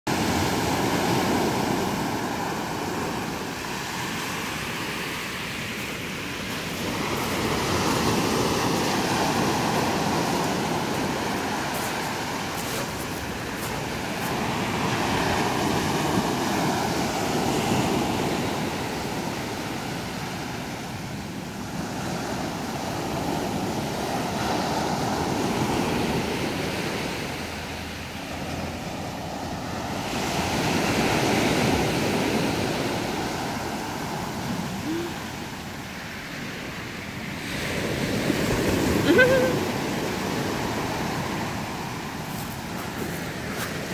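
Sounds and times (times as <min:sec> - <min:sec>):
waves washing on pebble beach: 0:00.1 - 0:43.9.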